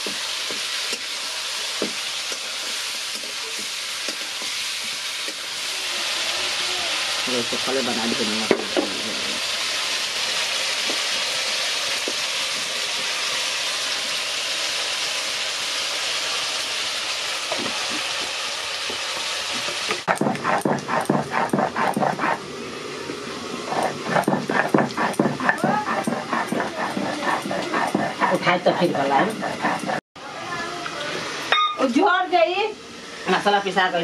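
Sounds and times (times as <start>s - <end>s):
meat sizzling in a wok: 0.0s - 29.8s.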